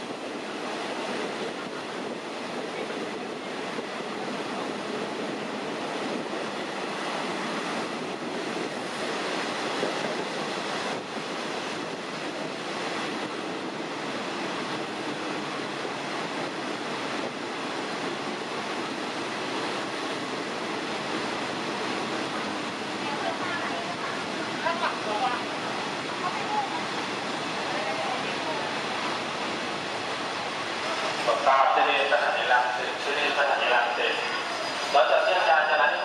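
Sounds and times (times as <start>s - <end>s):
train rushing on rails: 0.0s - 36.0s.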